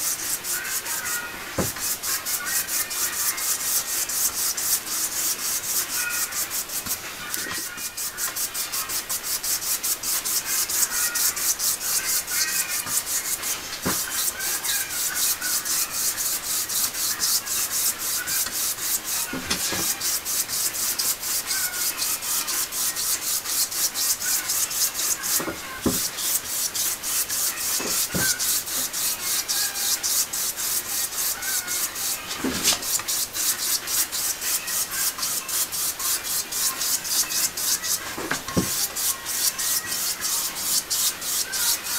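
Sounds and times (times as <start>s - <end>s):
cloth pad rubbing on paper: 0.0s - 6.9s, 7.6s - 41.9s.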